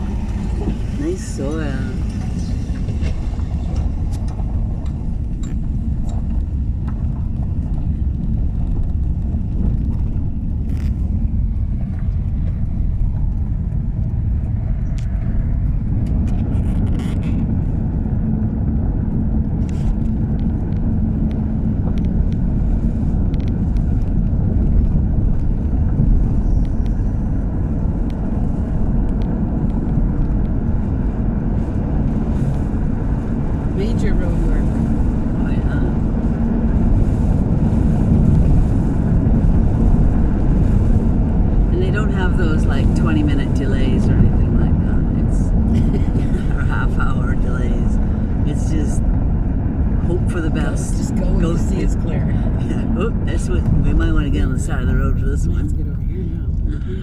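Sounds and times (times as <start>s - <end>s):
car engine rumble: 0.0s - 57.0s
tyres on road: 0.0s - 57.0s.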